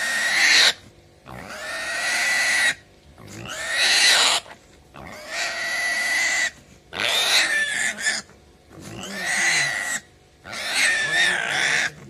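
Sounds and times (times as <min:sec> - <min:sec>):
piglet squealing: 0:00.0 - 0:12.0.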